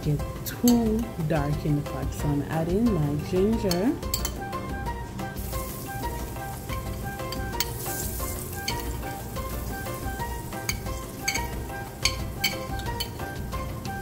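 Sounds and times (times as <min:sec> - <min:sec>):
spices sizzling in hot oil: 0:00.0 - 0:14.0.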